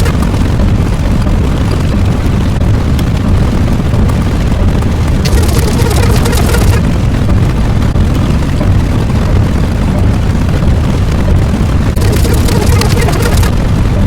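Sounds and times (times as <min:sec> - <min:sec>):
loud low rumble: 0:00.0 - 0:14.0.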